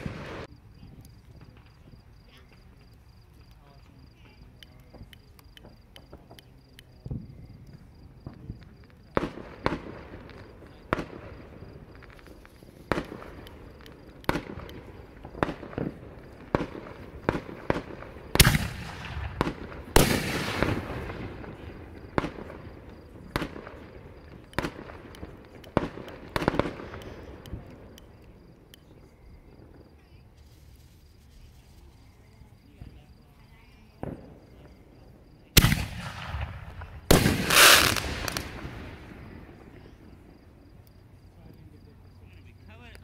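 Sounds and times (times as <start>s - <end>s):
fireworks crackle: 0.0s - 43.0s
fireworks popping and banging: 0.0s - 43.0s.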